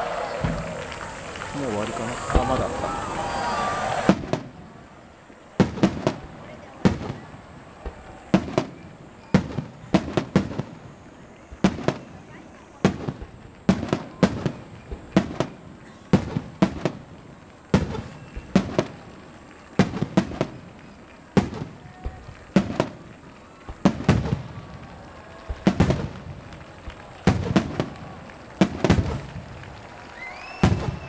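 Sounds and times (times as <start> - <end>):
firework shells bursting with bangs: 0.0 - 31.0.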